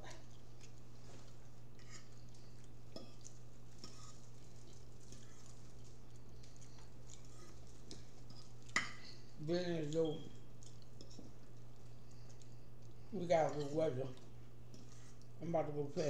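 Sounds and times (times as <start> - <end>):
people chewing crunchy food: 0.0 - 15.4
steady low hum: 0.0 - 16.0.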